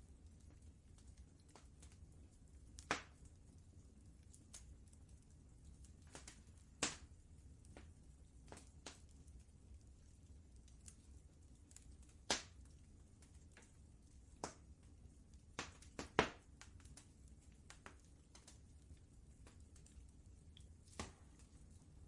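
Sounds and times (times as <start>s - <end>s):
faint low fire rumble: 0.0s - 22.0s
wood fire crackling and popping: 0.0s - 22.0s.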